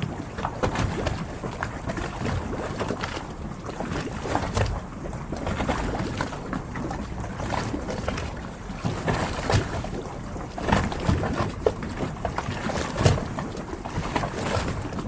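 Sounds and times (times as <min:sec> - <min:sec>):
water lapping against boat hulls: 0:00.0 - 0:15.0.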